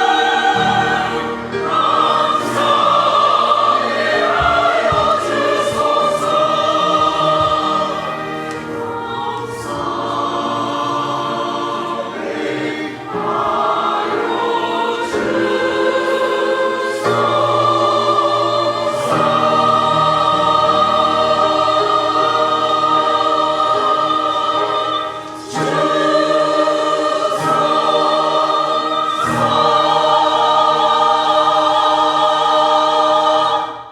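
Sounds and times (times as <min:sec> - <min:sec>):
choir singing a hymn: 0:00.0 - 0:33.9.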